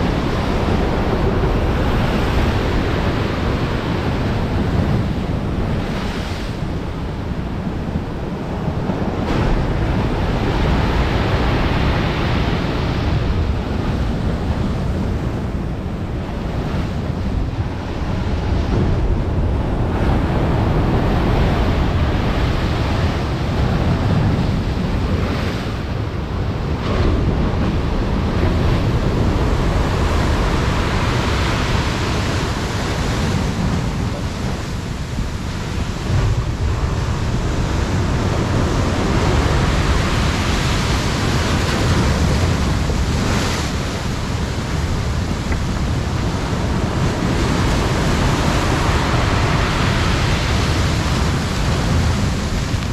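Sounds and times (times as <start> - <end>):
waves breaking: 0.0 - 52.9
wind buffeting microphone: 0.0 - 52.9.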